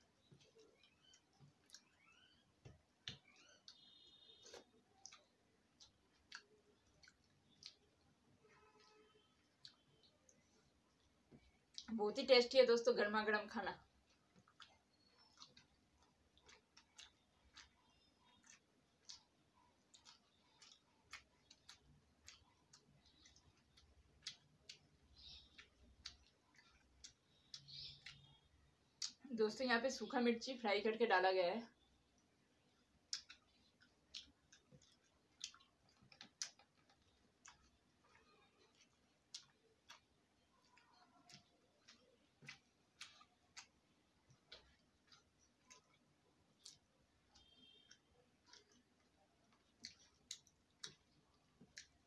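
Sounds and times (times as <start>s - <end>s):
chewing and lip smacking: 0.0s - 11.9s, 13.8s - 29.2s, 32.2s - 52.0s.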